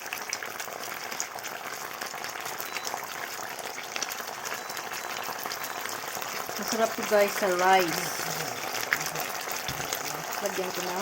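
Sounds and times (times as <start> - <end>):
sauce sizzling in a hot pan: 0.0 - 11.0.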